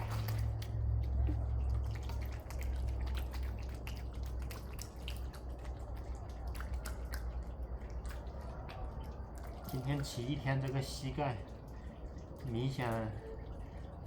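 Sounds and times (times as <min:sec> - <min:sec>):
steady low rumble: 0:00.0 - 0:14.0
water splashing and dripping: 0:00.0 - 0:14.0.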